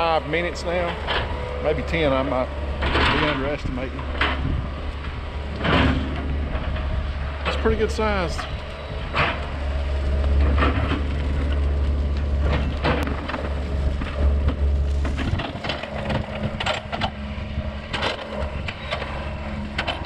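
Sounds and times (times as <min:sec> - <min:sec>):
brush fire crackling: 0:00.0 - 0:20.0
low rumble: 0:00.0 - 0:20.0.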